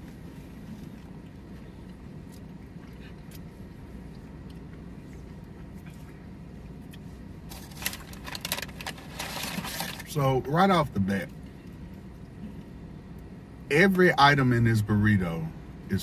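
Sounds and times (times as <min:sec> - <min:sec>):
low hum inside car: 0:00.0 - 0:16.0.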